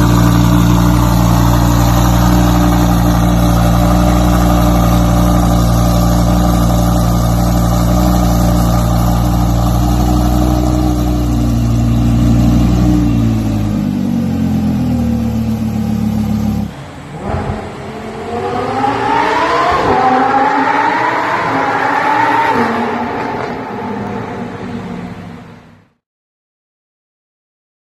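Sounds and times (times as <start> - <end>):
sports car engine revving: 0.0 - 25.3.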